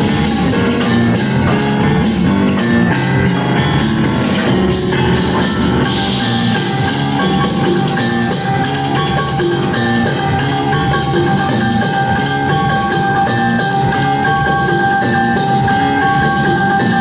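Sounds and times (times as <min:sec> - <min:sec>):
drums steady beat: 0:00.0 - 0:17.0
live rock band playing: 0:00.0 - 0:17.0.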